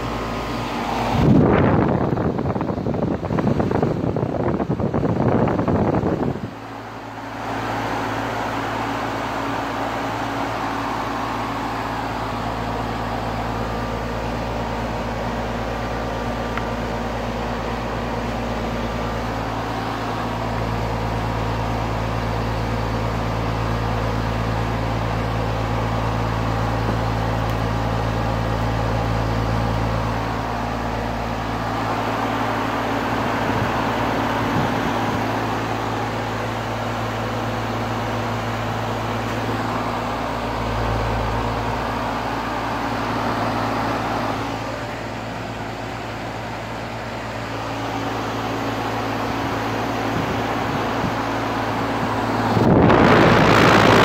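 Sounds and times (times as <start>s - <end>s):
fan rushing: 0.0s - 54.0s
heat pump humming: 0.0s - 54.0s.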